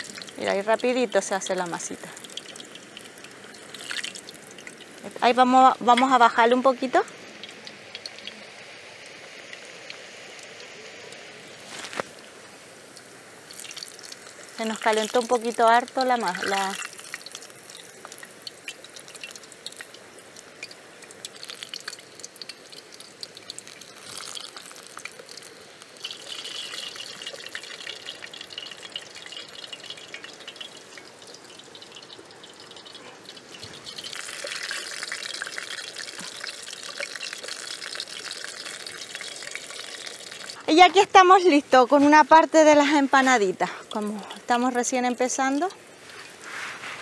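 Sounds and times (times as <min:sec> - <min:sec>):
hot oil sizzling and crackling: 0:00.0 - 0:47.0.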